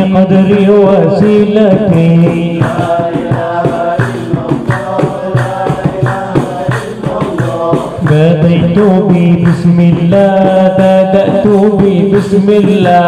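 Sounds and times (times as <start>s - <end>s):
frame drum beating: 0.0s - 13.0s
man singing devotional chant: 0.0s - 13.0s.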